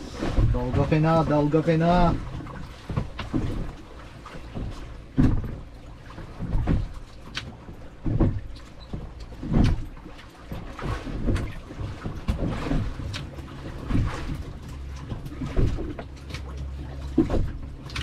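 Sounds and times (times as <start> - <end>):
waves slapping against boat hull: 0.0 - 18.0.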